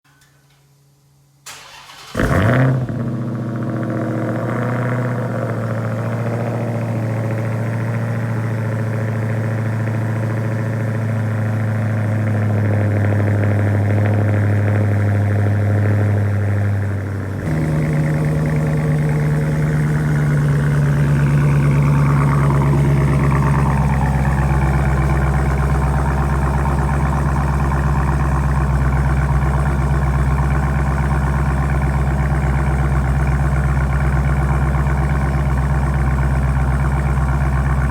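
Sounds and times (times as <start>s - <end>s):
engine idling loudly: 2.2s - 37.9s.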